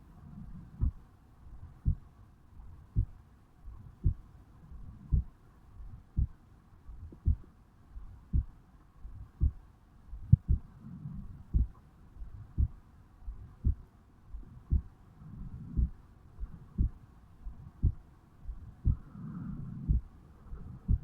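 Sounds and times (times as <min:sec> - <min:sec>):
heartbeat thumping: 0:00.8 - 0:19.1, 0:19.8 - 0:21.0.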